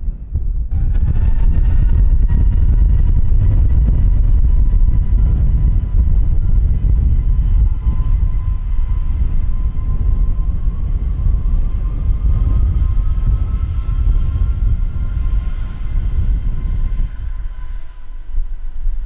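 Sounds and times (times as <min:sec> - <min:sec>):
faint steady whine: 0:00.0 - 0:19.0
jet engines rumbling: 0:00.0 - 0:19.0.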